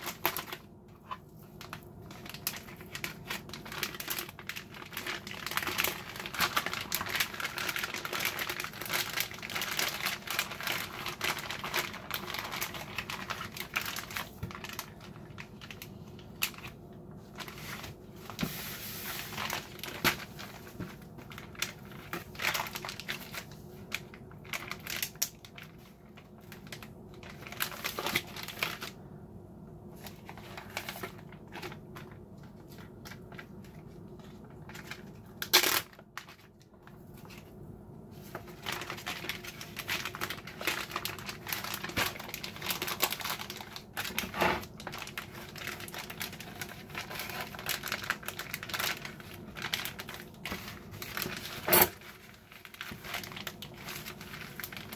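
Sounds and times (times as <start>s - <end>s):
plastic bags crinkling: 0.0s - 29.0s, 29.9s - 54.9s.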